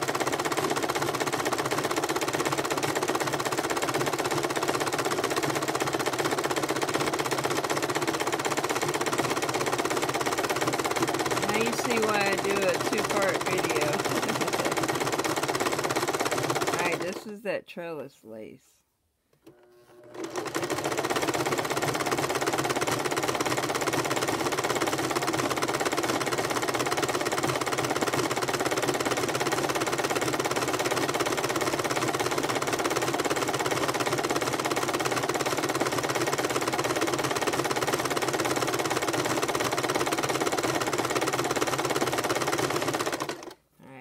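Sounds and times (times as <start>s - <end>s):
sewing machine running: 0.0s - 17.3s, 19.4s - 43.6s.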